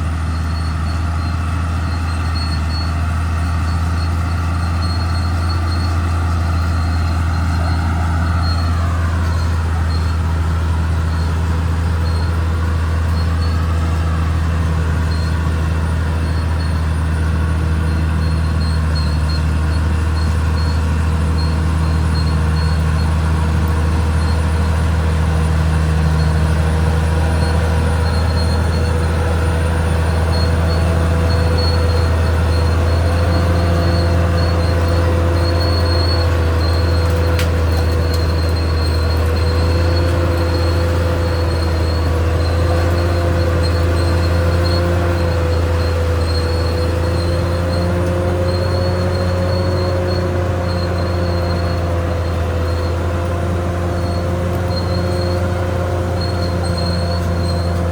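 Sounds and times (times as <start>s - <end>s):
bulldozer diesel engine: 0.0s - 57.9s
machine whining tone: 0.0s - 57.9s.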